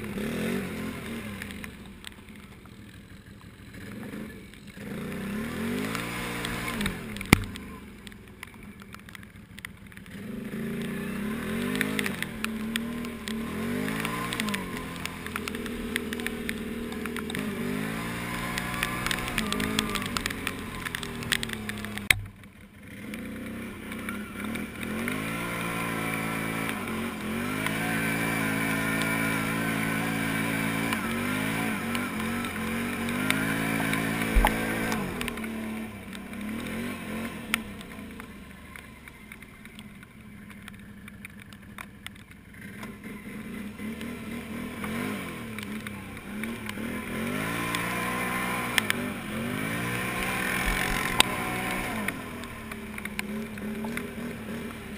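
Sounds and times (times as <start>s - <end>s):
single-cylinder engine revving: 0.0s - 8.2s, 10.0s - 22.2s, 22.8s - 39.6s, 42.1s - 54.9s.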